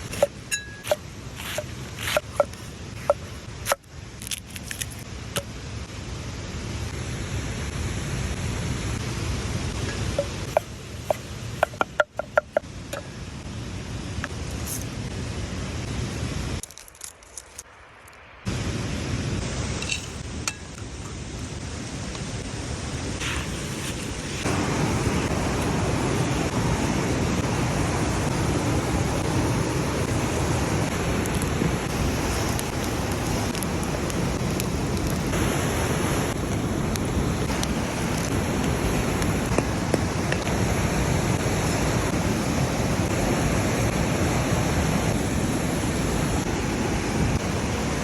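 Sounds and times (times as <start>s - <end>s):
steady rushing noise: 0.0s - 4.0s, 4.7s - 16.6s, 18.4s - 48.0s.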